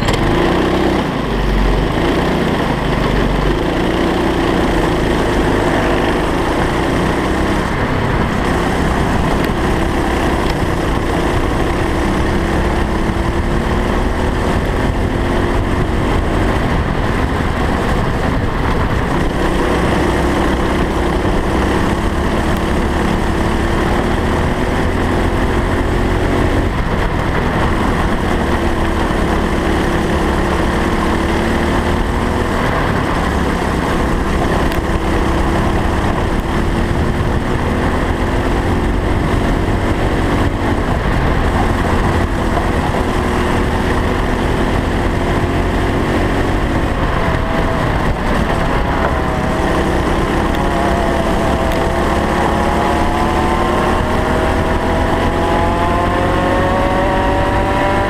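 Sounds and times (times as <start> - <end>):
go-kart engine revving: 0.0 - 58.0
wind rumble: 0.0 - 58.0.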